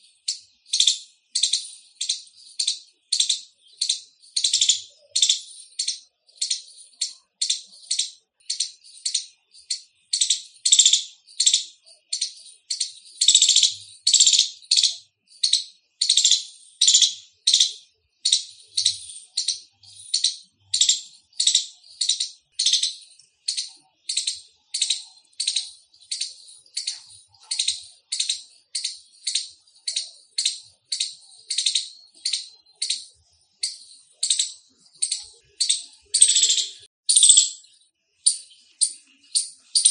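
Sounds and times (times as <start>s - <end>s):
squirrel chirping call: 0.0s - 39.9s.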